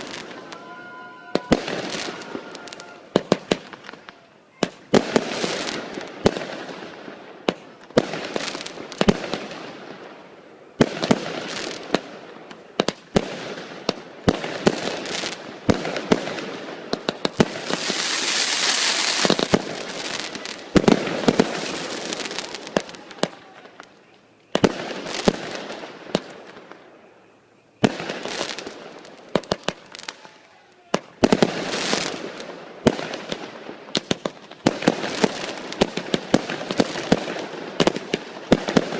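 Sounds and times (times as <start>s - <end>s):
fireworks bursting with bangs: 0.0s - 38.9s
fireworks hissing crackle: 0.0s - 38.9s.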